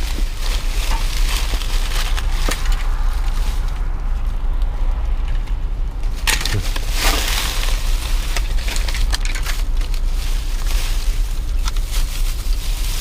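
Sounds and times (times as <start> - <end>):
trash bags crinkling: 0.0 - 4.4, 6.0 - 13.0
steady low rumble: 0.0 - 13.0.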